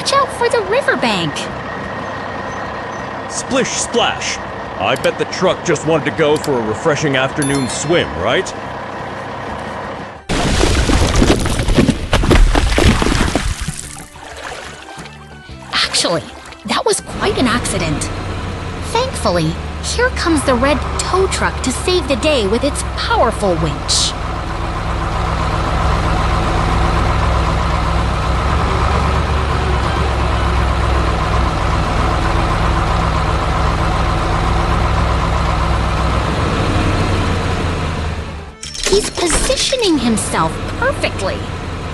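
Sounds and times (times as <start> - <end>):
truck engine idling: 0.0 - 10.4, 16.6 - 41.9.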